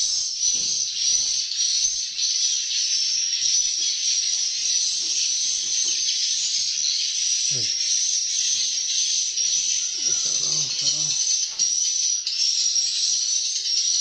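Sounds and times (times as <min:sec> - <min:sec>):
swiftlets twittering: 0:00.0 - 0:14.0.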